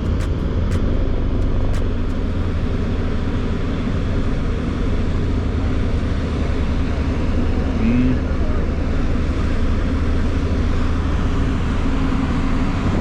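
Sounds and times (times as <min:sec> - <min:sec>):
highway traffic rumble: 0:00.0 - 0:13.0.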